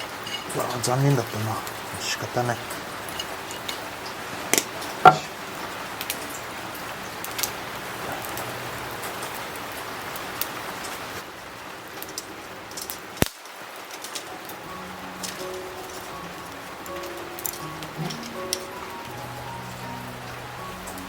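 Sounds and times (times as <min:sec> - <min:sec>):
shrimp sizzling on a grill: 0:00.0 - 0:21.0.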